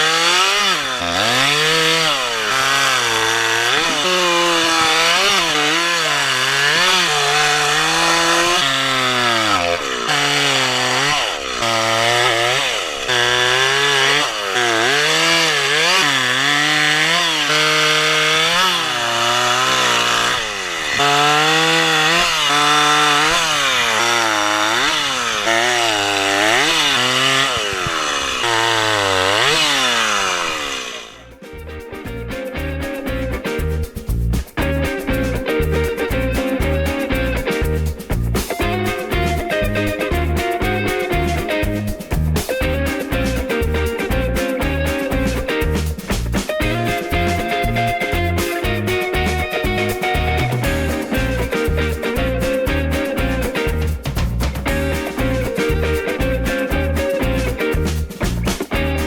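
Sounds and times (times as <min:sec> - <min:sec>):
chainsaw cutting wood: 0:00.0 - 0:31.6, 0:32.8 - 0:59.0.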